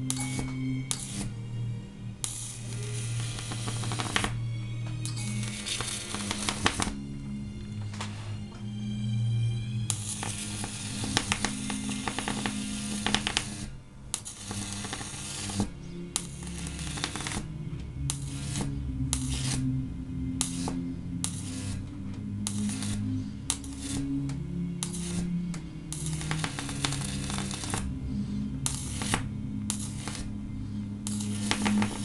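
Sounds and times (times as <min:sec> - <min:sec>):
electric arc hissing and crackling: 0:00.0 - 0:08.5, 0:09.7 - 0:32.0.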